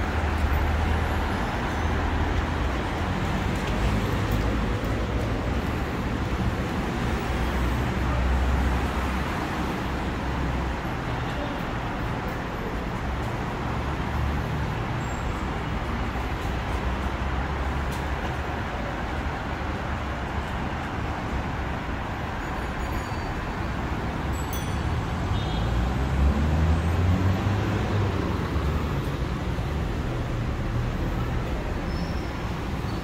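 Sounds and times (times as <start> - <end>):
road traffic rumble and tyre hiss: 0.0 - 33.0.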